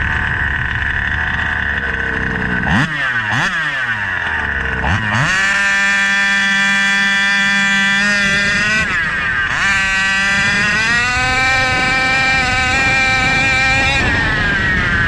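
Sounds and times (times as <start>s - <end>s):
two-stroke engine at high revs: 0.0s - 15.0s.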